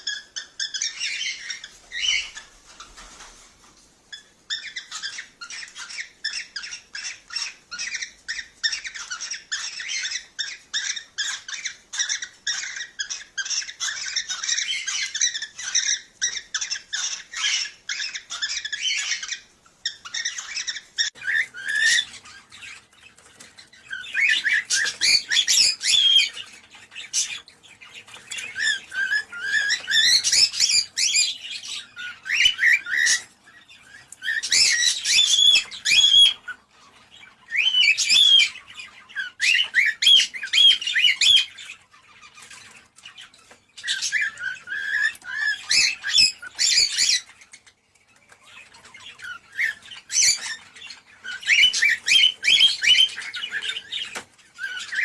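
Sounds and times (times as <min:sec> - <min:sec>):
cockatiels chirping and warbling: 0:00.0 - 0:55.0.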